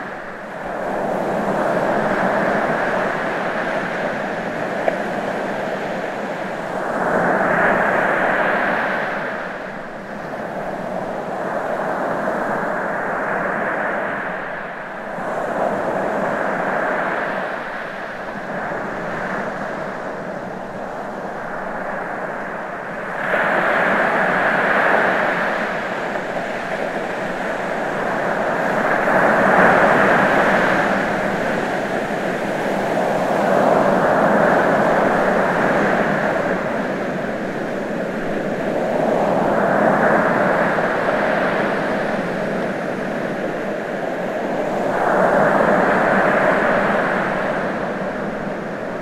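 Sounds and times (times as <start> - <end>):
ocean waves breaking: 0.0 - 49.0.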